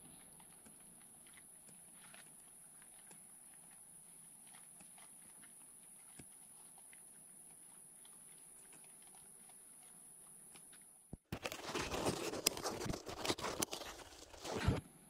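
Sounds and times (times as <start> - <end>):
hogs crunching food: 0.0 - 14.7.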